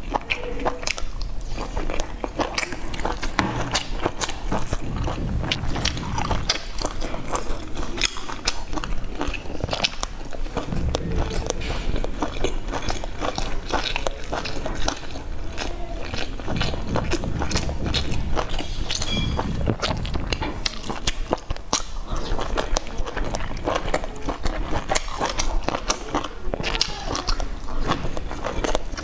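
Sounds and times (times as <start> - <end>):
wet chewing and lip smacking: 0.0 - 29.0.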